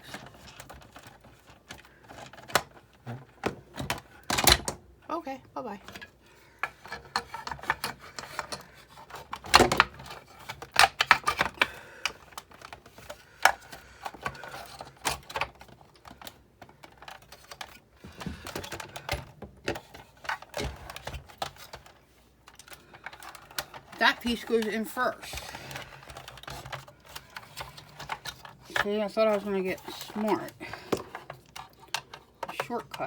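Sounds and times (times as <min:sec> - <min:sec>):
plastic and metal parts clicking: 0:00.0 - 0:04.8, 0:05.8 - 0:33.0.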